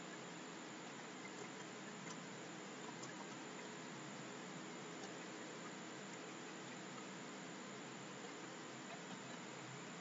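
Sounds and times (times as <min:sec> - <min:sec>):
microphone hiss: 0:00.0 - 0:10.0.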